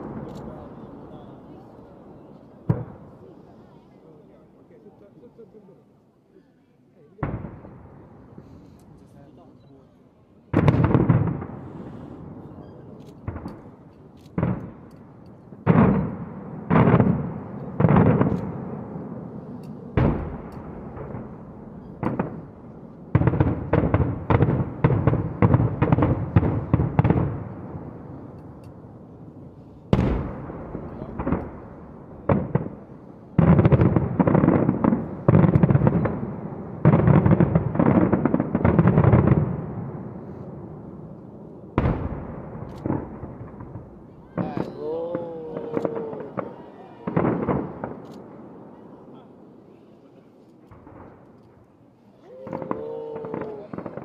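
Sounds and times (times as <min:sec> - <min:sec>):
fireworks bangs echoing: 0:00.0 - 0:03.4, 0:07.2 - 0:09.4, 0:10.5 - 0:49.6, 0:50.6 - 0:51.4, 0:52.3 - 0:54.0.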